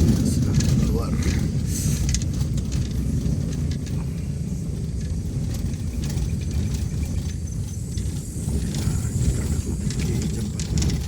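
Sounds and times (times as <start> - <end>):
faint ticks and rattles: 0.0 - 11.0
vehicle driving on rough road: 0.0 - 11.0.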